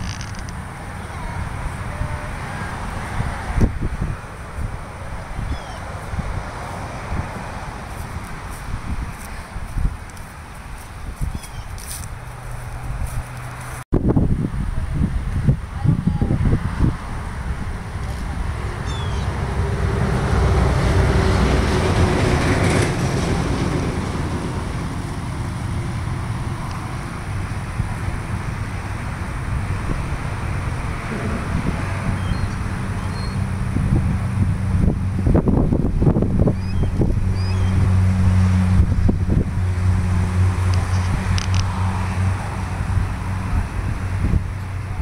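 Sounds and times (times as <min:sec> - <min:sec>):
passing road traffic rumble: 0:00.0 - 0:45.0
wind buffeting microphone: 0:00.0 - 0:45.0.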